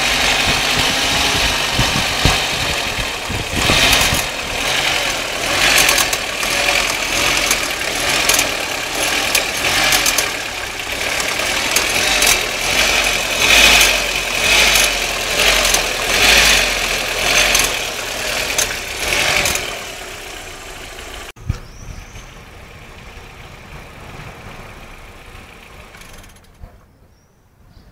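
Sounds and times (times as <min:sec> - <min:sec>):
car engine running: 0:00.0 - 0:21.4, 0:22.1 - 0:26.5.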